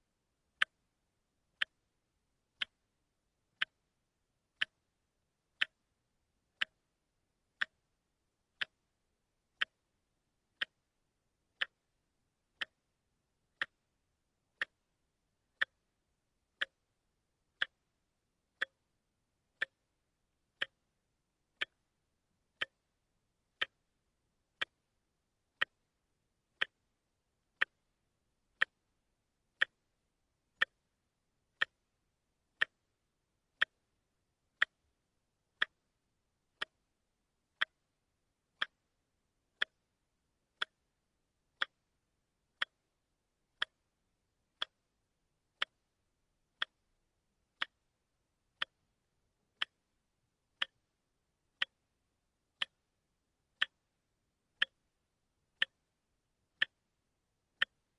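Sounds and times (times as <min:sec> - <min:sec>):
watch ticking: 0:00.5 - 0:00.9, 0:01.5 - 0:01.9, 0:02.5 - 0:03.9, 0:04.5 - 0:07.9, 0:08.5 - 0:13.9, 0:14.5 - 0:24.9, 0:25.5 - 0:44.9, 0:45.6 - 0:47.0, 0:47.6 - 0:48.9, 0:49.6 - 0:51.9, 0:52.5 - 0:52.9, 0:53.6 - 0:54.0, 0:54.6 - 0:54.9, 0:55.6 - 0:56.9, 0:57.6 - 0:57.9.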